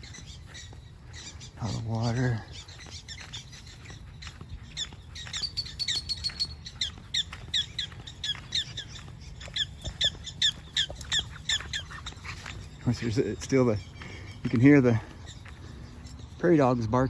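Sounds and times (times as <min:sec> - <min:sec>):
prairie dogs barking: 0:00.0 - 0:17.0.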